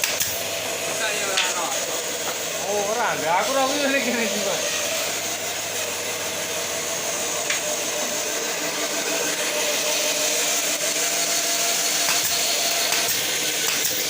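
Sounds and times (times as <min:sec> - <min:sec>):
power tool running: 0:00.0 - 0:14.0.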